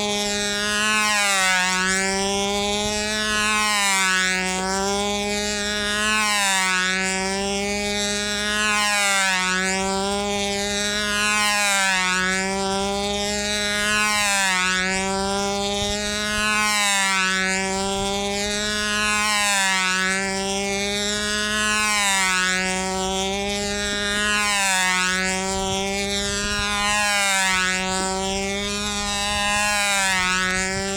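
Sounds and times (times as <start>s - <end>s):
model airplane engine buzzing: 0.0s - 30.9s.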